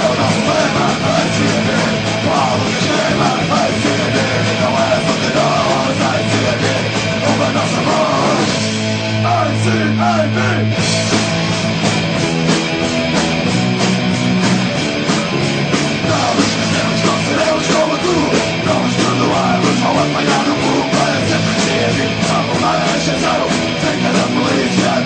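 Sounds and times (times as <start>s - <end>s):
punk rock song with vocals: 0.0s - 25.0s.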